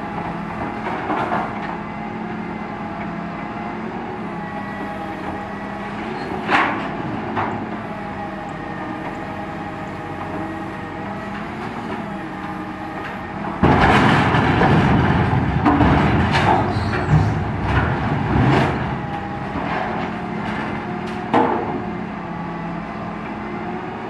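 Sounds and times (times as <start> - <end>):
engine and hydraulic hum: 0.0 - 24.0.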